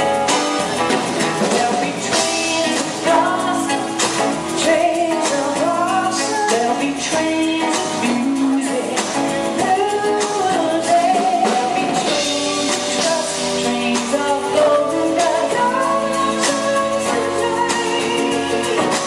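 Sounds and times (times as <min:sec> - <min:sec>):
drum kit: 0:00.0 - 0:19.0
guitar: 0:00.0 - 0:19.0
person singing: 0:00.0 - 0:19.0.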